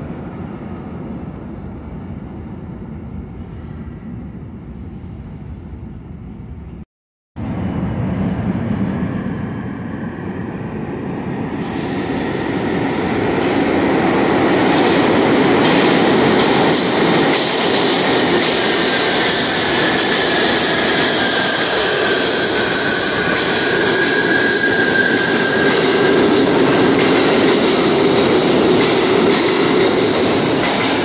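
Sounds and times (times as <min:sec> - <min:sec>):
subway train rumble: 0:00.0 - 0:06.8, 0:07.4 - 0:31.0.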